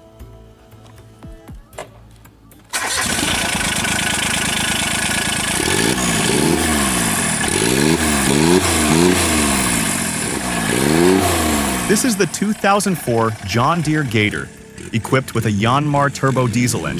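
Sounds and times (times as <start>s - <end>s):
diesel engine revving: 2.7s - 16.9s.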